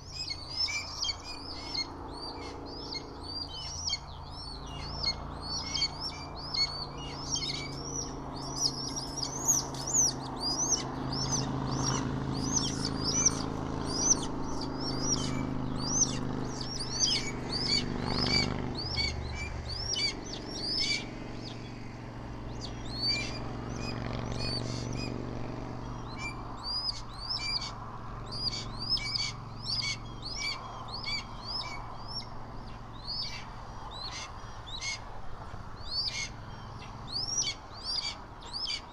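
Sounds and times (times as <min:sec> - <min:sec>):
low steady rumble: 0:00.0 - 0:38.9
small birds chirping: 0:00.0 - 0:38.9.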